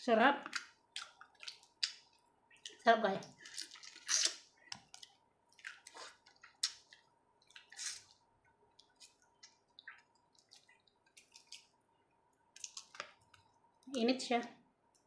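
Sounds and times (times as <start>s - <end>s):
person chewing and lip smacking: 0.4s - 13.6s.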